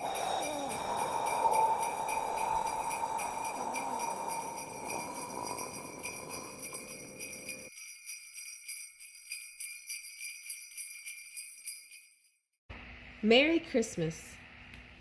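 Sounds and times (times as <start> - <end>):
sleigh bells jingling: 0.0 - 12.4.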